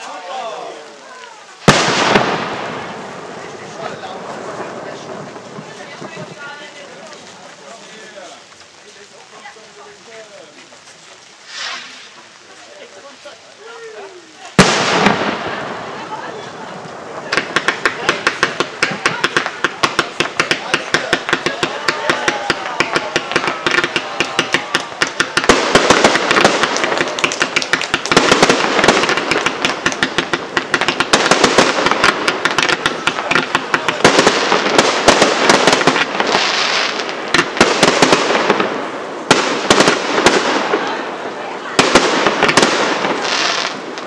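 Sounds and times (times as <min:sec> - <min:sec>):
fireworks crackling: 0:00.0 - 0:44.0
loud firework bursts: 0:00.0 - 0:44.0.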